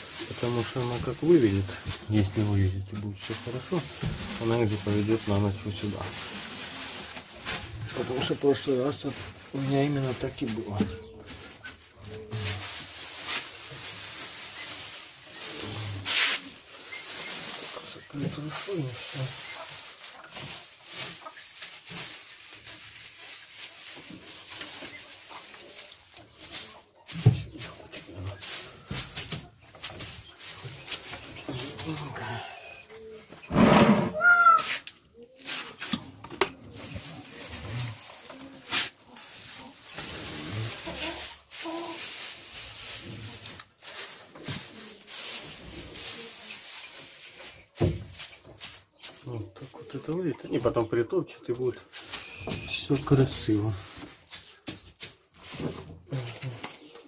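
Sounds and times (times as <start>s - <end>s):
dry straw rustling and crackling: 0.0s - 33.5s, 34.2s - 57.0s.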